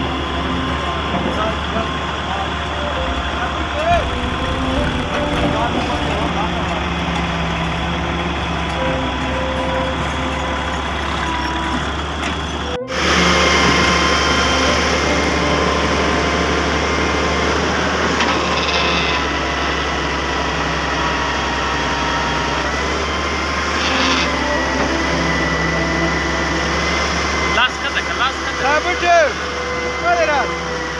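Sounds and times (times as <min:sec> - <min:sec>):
heavy diesel engine running: 0:00.0 - 0:30.9
high steady whine: 0:00.0 - 0:30.9.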